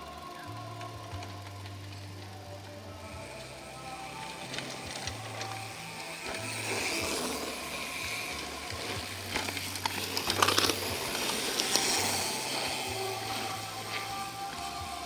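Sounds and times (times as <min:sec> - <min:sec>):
bike freehub ratchet buzzing: 0:00.0 - 0:15.0
tyres on dirt: 0:00.0 - 0:15.0.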